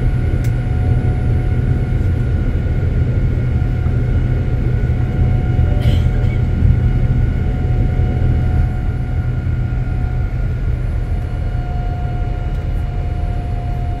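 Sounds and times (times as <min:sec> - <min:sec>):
jet engine roar in cabin: 0:00.0 - 0:14.0
thin steady whine: 0:00.0 - 0:14.0.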